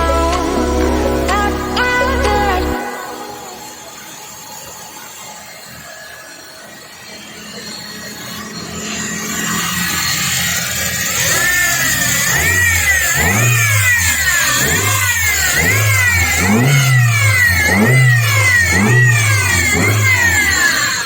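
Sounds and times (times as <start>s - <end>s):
petrol engine revving: 0.0s - 21.0s.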